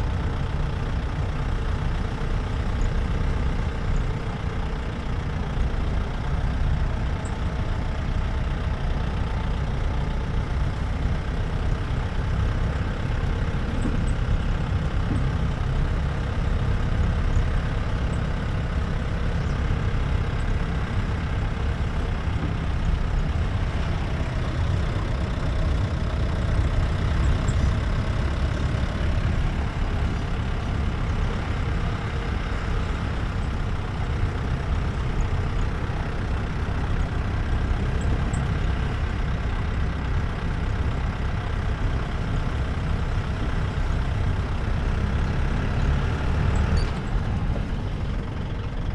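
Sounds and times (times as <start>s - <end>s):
engine low rumble while driving: 0.0s - 48.9s.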